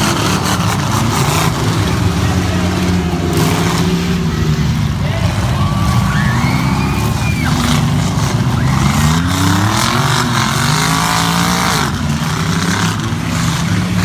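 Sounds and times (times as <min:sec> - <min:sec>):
engine revving up: 0:00.0 - 0:14.0
truck engines running: 0:00.0 - 0:14.0.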